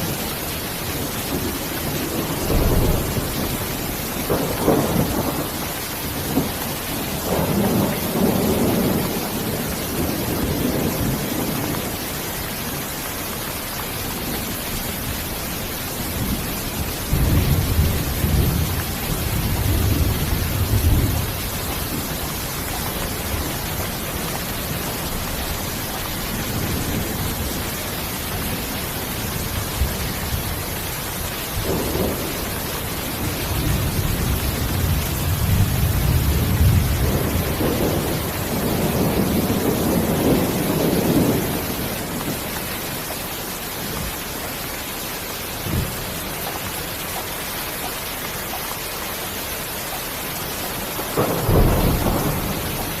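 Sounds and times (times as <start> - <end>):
low rolling thunder: 0.0 - 12.9, 13.9 - 43.1, 50.8 - 53.0
steady rain: 0.0 - 53.0.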